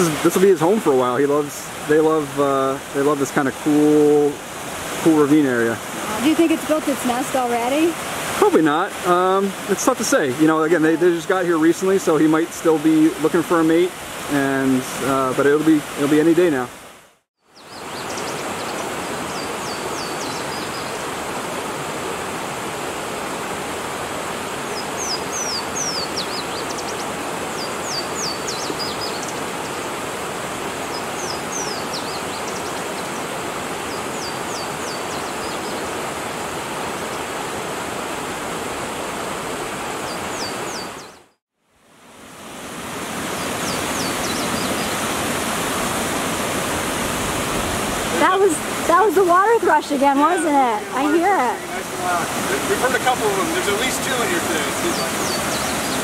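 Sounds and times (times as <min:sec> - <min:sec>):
rushing brook: 0:00.0 - 0:56.0.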